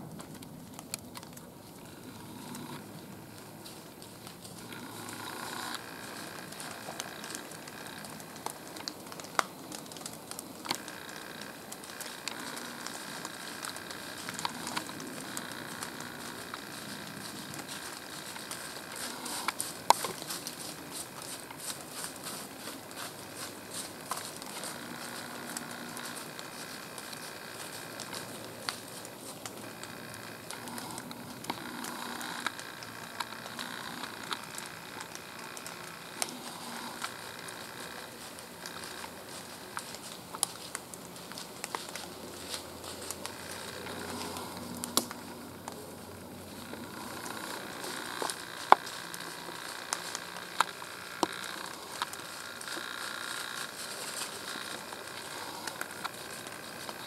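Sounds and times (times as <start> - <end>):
light rain on dry leaves: 0.0 - 57.0.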